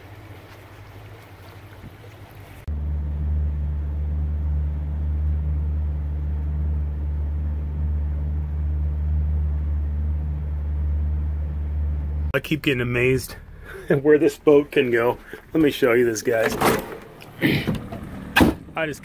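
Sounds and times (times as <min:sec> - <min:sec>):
boat motor droning: 0:00.0 - 0:19.0
faint outdoor ambience: 0:00.0 - 0:19.0.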